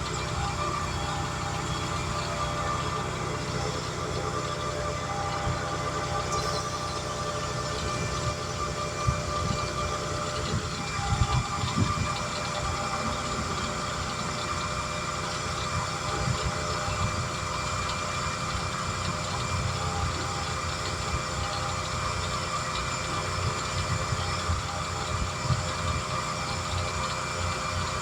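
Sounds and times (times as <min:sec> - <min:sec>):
motor running: 0:00.0 - 0:28.0.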